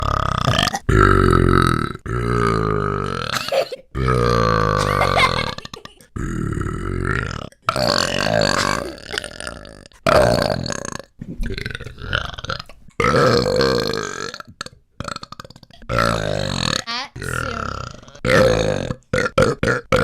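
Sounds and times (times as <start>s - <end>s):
man burping loudly: 0.0s - 20.0s.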